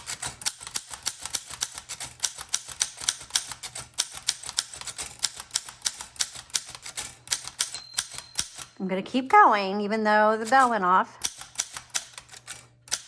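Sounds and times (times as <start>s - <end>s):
typewriter typing: 0.0s - 8.8s, 10.4s - 13.0s.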